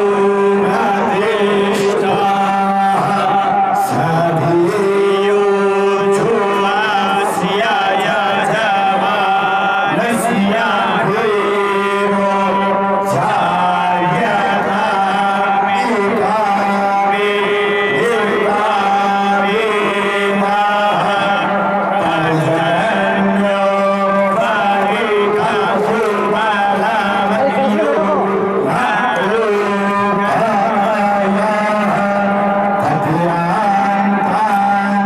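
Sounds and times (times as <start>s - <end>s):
man chanting: 0.0s - 35.0s.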